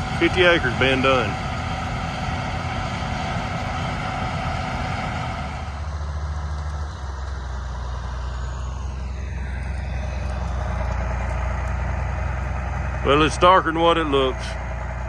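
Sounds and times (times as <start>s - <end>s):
combine harvester engine hum: 0.0s - 15.0s.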